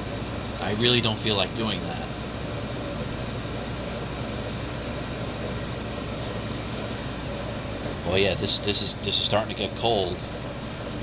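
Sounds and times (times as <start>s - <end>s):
compressor hum: 0.0s - 11.0s
fan blowing air: 0.0s - 11.0s.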